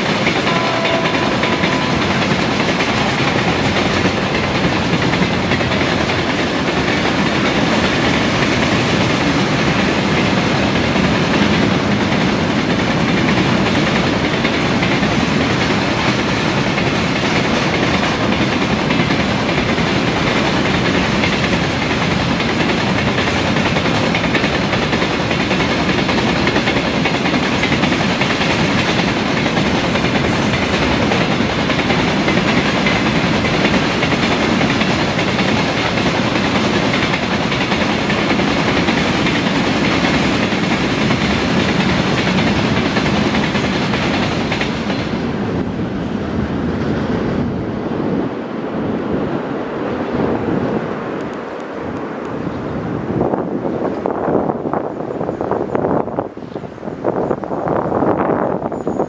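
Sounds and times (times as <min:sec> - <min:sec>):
clickety-clack over rail joints: 0:00.0 - 0:47.5, 0:50.3 - 0:59.0
freight train wheels on rails: 0:00.0 - 0:59.0.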